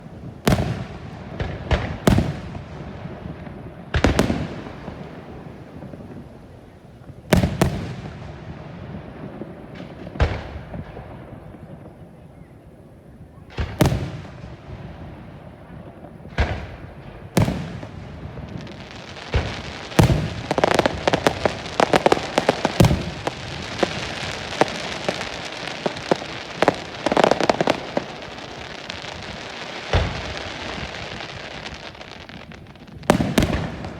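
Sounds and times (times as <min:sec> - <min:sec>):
firework crackling: 0:00.0 - 0:33.9.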